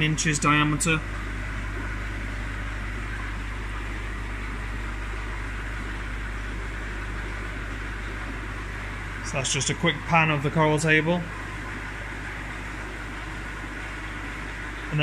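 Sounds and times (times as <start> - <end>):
pump low hum: 0.0 - 15.0.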